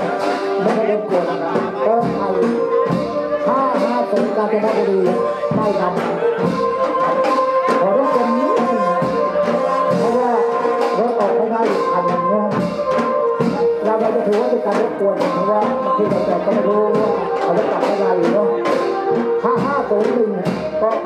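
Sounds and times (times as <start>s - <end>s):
brass instruments melody: 0.0s - 21.0s
drums steady beat: 0.0s - 21.0s.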